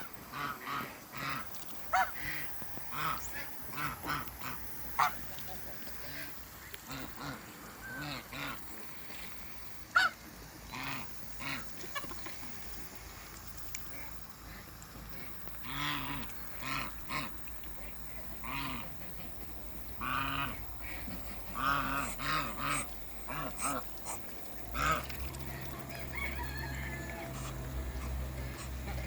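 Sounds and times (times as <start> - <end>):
geese honking: 0.0 - 12.6, 13.9 - 29.0
steady low hum: 0.0 - 29.0.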